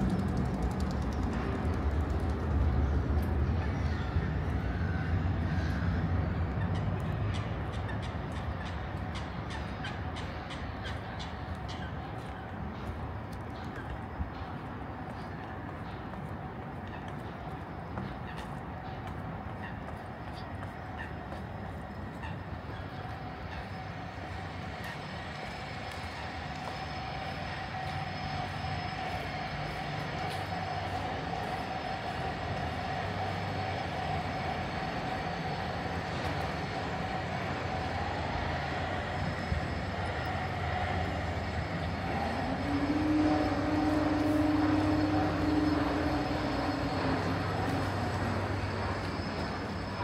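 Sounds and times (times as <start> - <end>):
mechanical hum with whine: 0.0 - 50.0.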